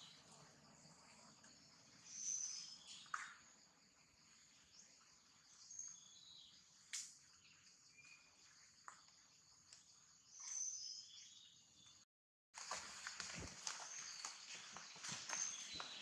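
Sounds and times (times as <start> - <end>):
bird chirps: 0.0 - 3.6, 4.2 - 12.0, 13.8 - 16.0.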